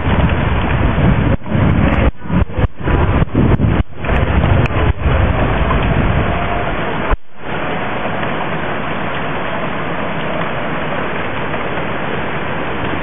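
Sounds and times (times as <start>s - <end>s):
heavy rain and hail: 0.0s - 13.0s
wind buffeting microphone: 0.0s - 13.0s.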